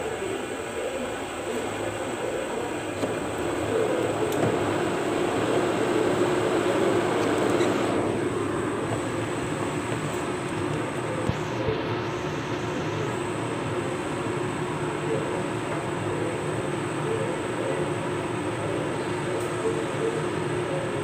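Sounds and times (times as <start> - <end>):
exhaust fan rushing hum: 0.0 - 21.0.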